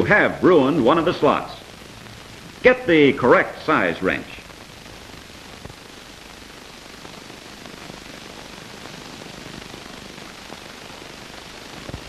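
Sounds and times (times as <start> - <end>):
faint crackle: 0.0 - 12.0
film soundtrack hiss: 0.0 - 12.0.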